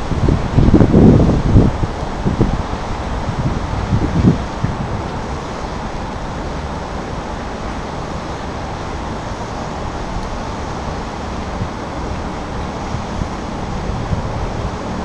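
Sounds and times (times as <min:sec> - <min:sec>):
boat engine rumble: 0:00.0 - 0:15.0
wind noise on microphone: 0:00.0 - 0:15.0.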